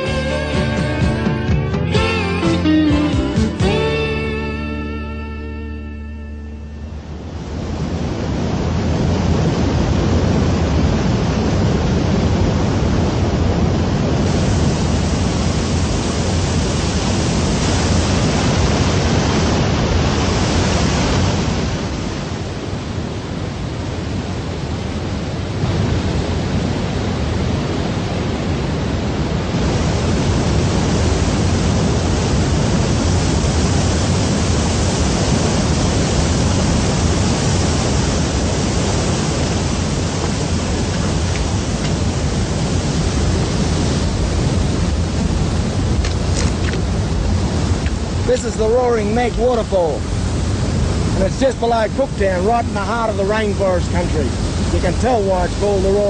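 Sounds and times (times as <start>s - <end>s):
waterfall rushing: 6.9s - 56.0s.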